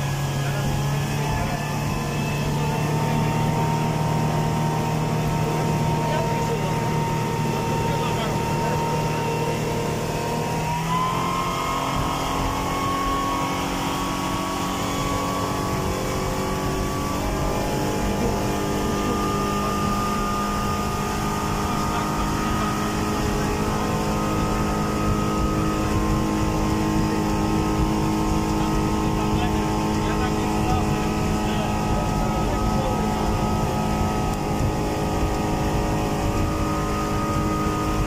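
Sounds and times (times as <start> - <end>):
outboard motor whining: 0.0 - 38.0
water and wind noise: 0.0 - 38.0.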